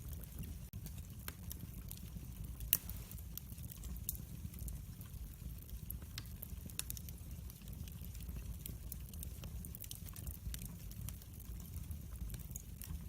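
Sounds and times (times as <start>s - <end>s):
fire popping and snapping: 0.0s - 13.0s
low rumble of flames: 0.0s - 13.0s
wood fire crackling: 0.0s - 13.0s.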